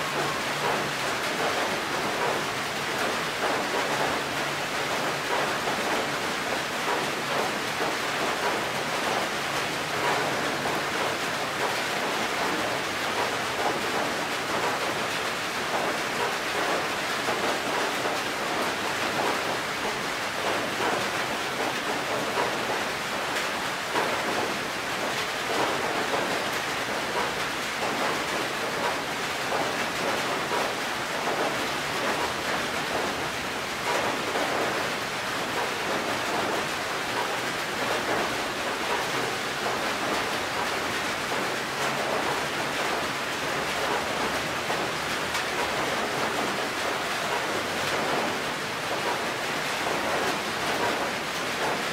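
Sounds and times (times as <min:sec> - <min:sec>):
rain on a metal roof: 0:00.0 - 0:51.9.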